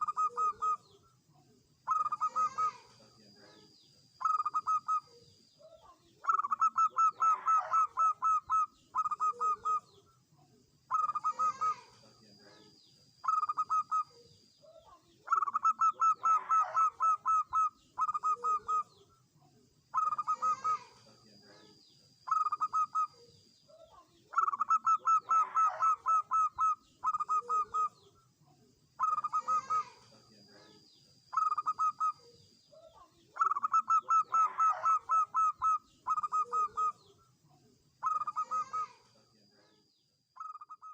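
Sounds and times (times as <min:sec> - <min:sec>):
doves cooing: 0:00.0 - 0:01.2, 0:01.8 - 0:10.2, 0:10.8 - 0:19.2, 0:19.8 - 0:28.2, 0:28.9 - 0:37.2, 0:37.9 - 0:39.3.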